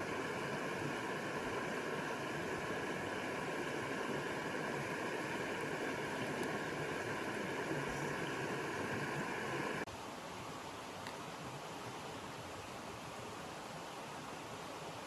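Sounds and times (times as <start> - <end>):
stream water rushing and gurgling: 0.0 - 15.0.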